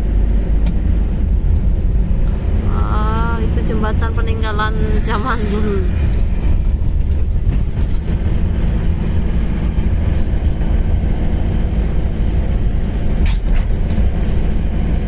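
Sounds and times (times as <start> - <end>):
road and engine rumble in vehicle: 0.0 - 15.0.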